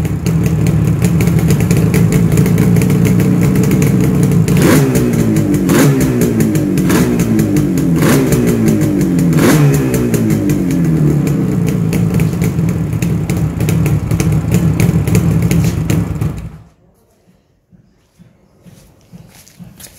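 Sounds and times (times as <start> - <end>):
motorcycle engine revving and idling: 0.0 - 16.7.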